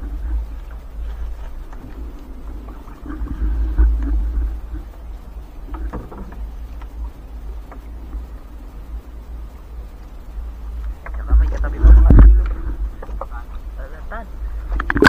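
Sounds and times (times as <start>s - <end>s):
low rumble: 0.0s - 15.0s
water splashing: 0.0s - 15.0s.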